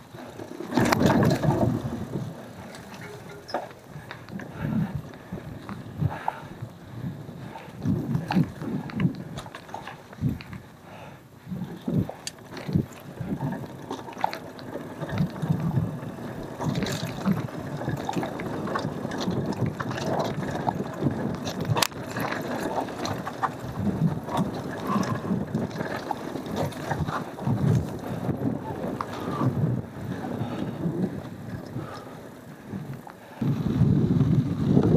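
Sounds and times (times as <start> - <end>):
bike clicking and rattling: 0.0 - 34.9
bike tyre noise on dirt: 0.0 - 34.9.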